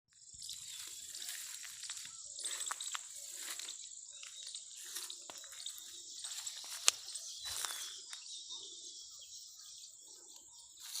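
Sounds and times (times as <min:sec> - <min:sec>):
high-pitched insect drone: 0:00.1 - 0:11.0
insect chirps and clicks: 0:00.1 - 0:11.0.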